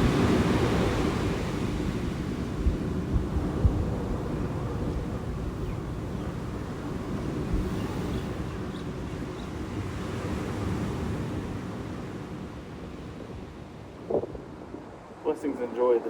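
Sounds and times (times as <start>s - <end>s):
ocean surf washing on shore: 0.0s - 16.0s
wind buffeting microphone: 0.0s - 16.0s.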